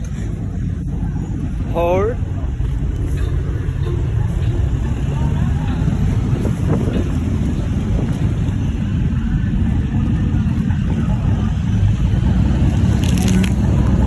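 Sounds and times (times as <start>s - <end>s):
truck engines rumbling: 0.0s - 14.0s.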